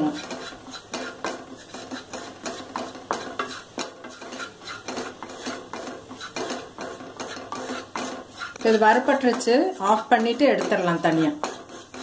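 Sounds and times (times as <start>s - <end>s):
wooden spatula scraping a pan: 0.0s - 12.0s.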